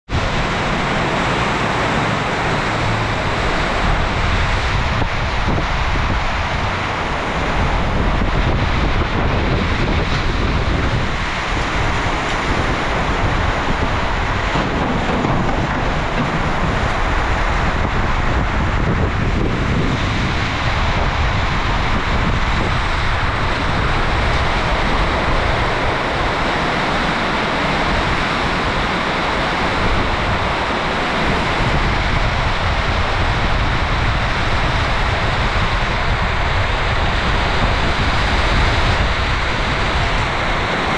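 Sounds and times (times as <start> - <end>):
strong wind: 0.0 - 40.9
heavy rain: 0.1 - 40.9
wind buffeting microphone: 0.1 - 40.9.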